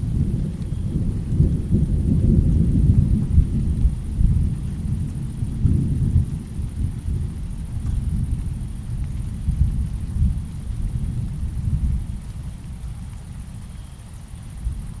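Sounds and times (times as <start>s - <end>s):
thunder rumbling: 0.0s - 13.7s.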